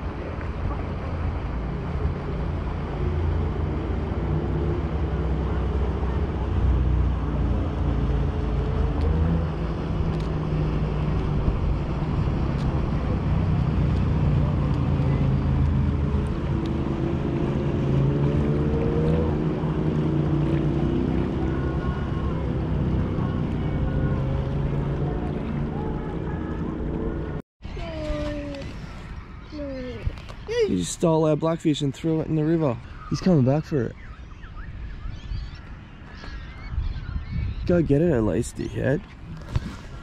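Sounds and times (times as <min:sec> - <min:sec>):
boat outboard motors droning: 0:00.0 - 0:40.0.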